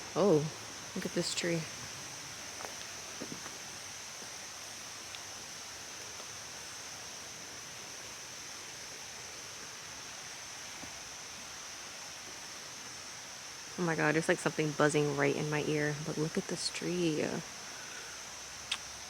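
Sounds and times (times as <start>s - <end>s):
even hiss: 0.0s - 19.0s.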